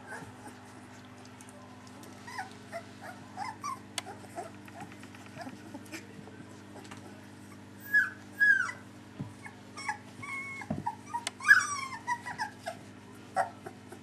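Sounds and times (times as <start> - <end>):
puppy whimpering: 0.0 - 1.1, 2.1 - 6.1, 6.8 - 14.0.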